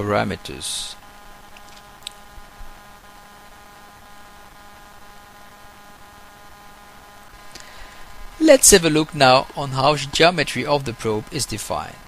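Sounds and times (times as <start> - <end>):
electrical hum: 0.0 - 12.0
faint hiss: 0.0 - 12.0.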